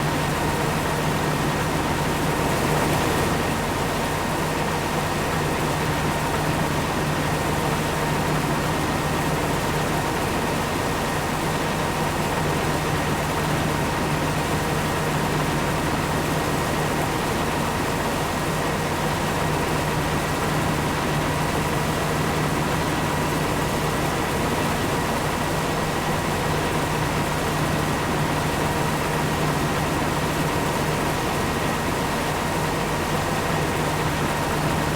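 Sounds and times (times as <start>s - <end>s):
farm machinery engine hum: 0.0s - 34.9s.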